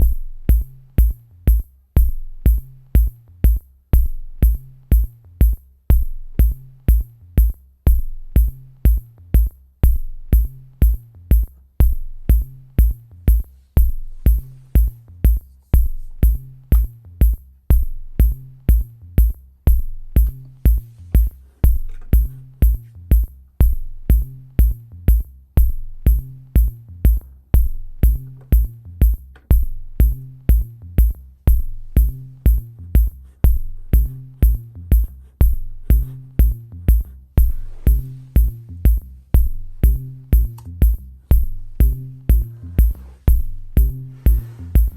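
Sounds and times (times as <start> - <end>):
electronic music with drum-machine beat: 0.0 - 44.9.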